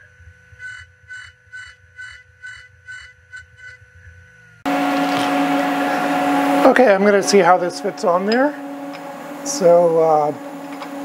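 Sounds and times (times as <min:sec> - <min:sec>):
machine hum with low tone: 0:00.0 - 0:11.0.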